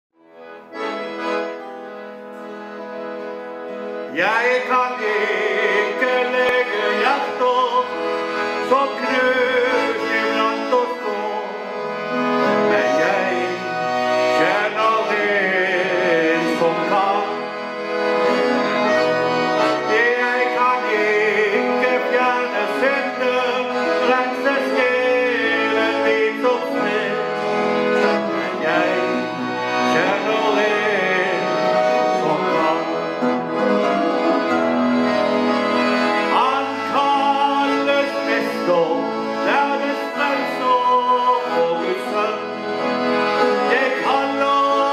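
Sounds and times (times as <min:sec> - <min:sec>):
button accordion playing: 0:00.2 - 0:44.9
man singing: 0:04.1 - 0:17.7, 0:19.6 - 0:34.5, 0:36.2 - 0:44.9.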